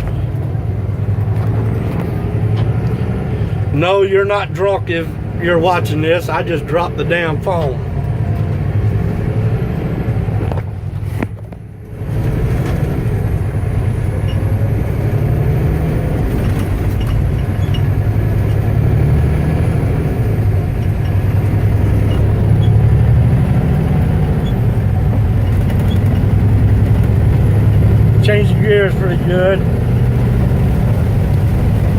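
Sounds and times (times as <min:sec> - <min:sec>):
road noise: 0:00.0 - 0:31.9
transmission shifting gears: 0:00.0 - 0:31.9
truck engine accelerating: 0:00.0 - 0:31.9.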